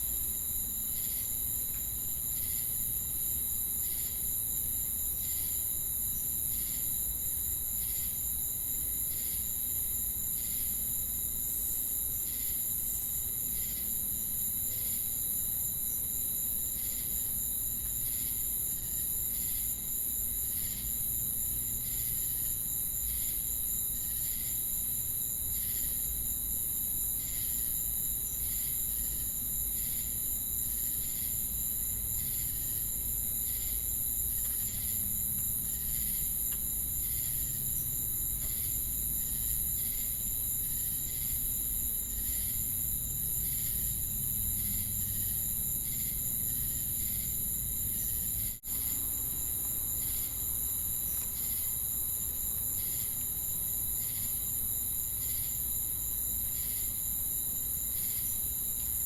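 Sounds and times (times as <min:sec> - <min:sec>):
cricket chirping: 0:00.0 - 0:59.0
insects droning: 0:00.0 - 0:59.0.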